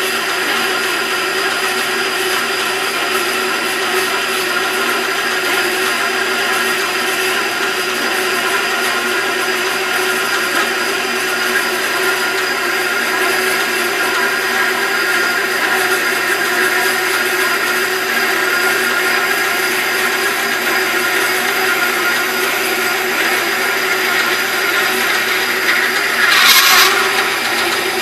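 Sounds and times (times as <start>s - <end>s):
bandsaw cutting metal: 0.0s - 28.0s
motor hum and whine: 0.0s - 28.0s.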